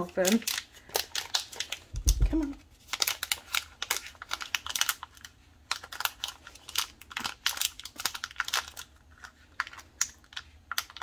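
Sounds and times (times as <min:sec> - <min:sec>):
foil pouch crinkling: 0:00.0 - 0:11.0.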